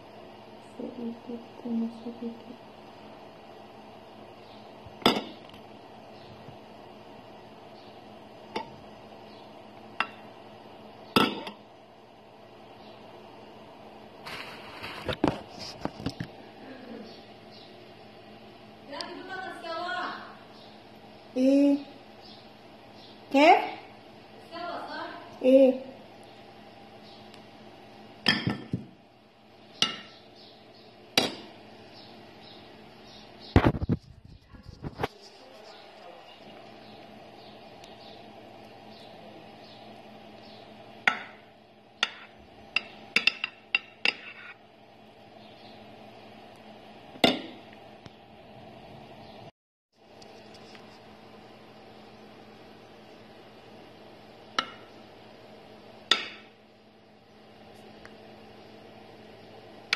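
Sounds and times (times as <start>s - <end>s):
faint room hum: 0.0s - 59.9s.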